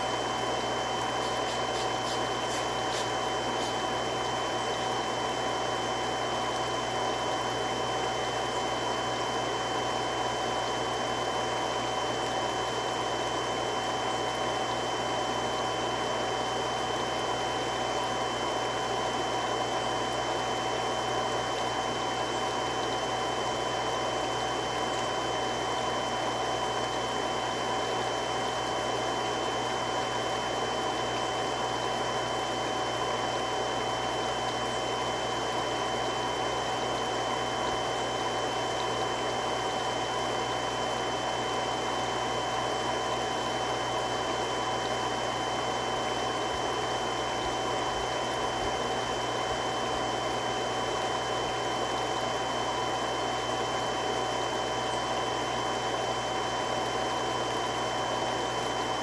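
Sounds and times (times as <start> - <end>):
water pump rushing: 0.0 - 59.0.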